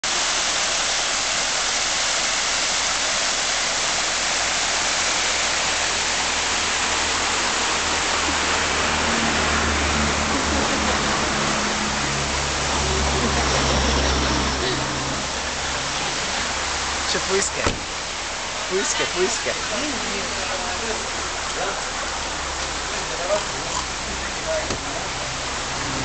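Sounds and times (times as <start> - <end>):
waterfall splashing into pond: 0.0 - 26.0.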